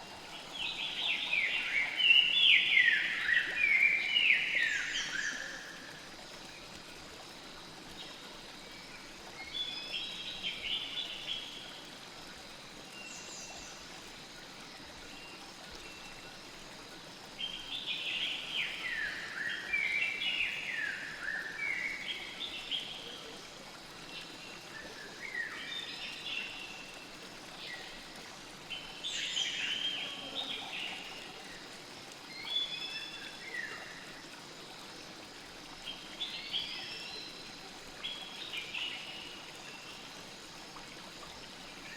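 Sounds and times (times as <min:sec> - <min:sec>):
forest stream flowing: 0:00.0 - 0:41.9.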